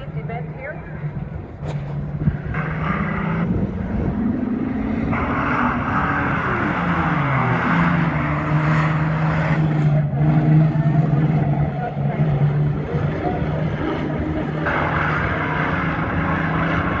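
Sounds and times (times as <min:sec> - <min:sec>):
racing truck engines passing: 0:00.0 - 0:17.0.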